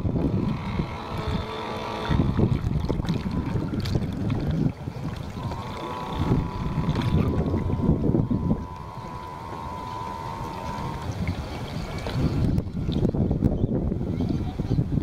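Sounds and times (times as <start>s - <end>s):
thin steady whine: 0.0s - 15.0s
water rushing past boat hull: 0.0s - 15.0s
wind buffeting microphone: 0.0s - 15.0s.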